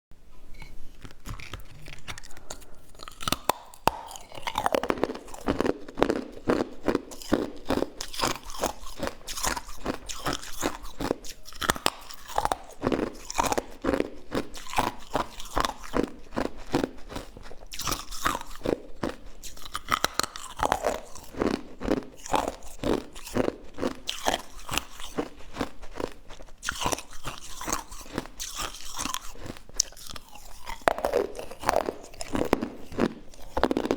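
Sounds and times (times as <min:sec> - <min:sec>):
person chewing crunchy food: 0:00.5 - 0:33.9.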